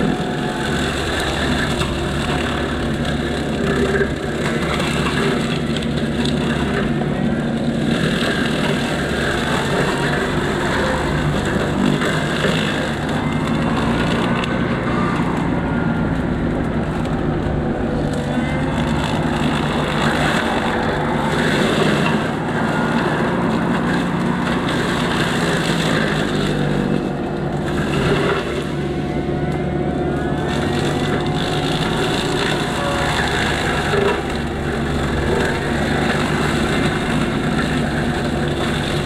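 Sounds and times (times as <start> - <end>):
brush cutter whines: 0.0 - 39.0
excavator engine drone: 0.0 - 39.0.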